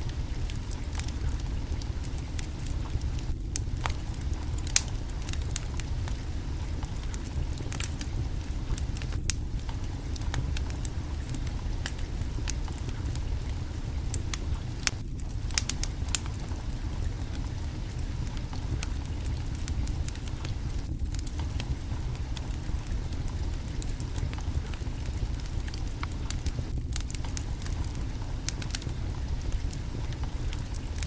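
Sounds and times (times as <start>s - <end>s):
burning wood crackling and popping: 0.0s - 31.0s
low rumble of flames: 0.0s - 31.0s.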